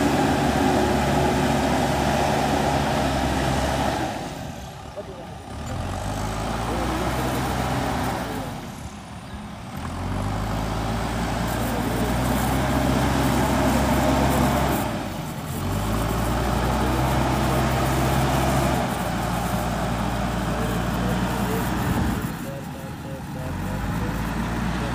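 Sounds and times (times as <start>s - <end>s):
diesel engine running under load: 0.0s - 24.9s.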